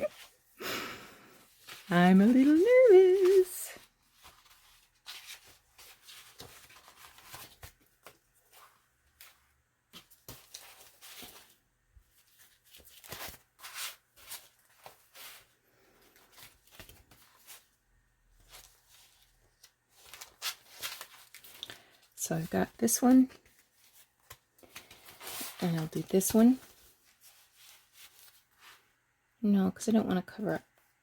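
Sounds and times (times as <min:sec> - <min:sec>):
paper rustling and crackling: 0:01.4 - 0:28.9.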